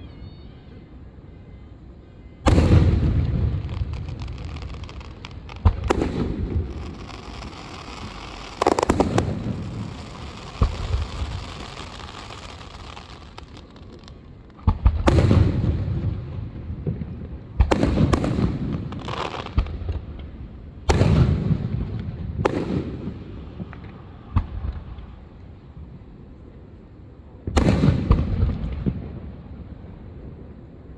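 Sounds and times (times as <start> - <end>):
fireworks booming with echo: 2.4 - 25.2, 27.5 - 29.6.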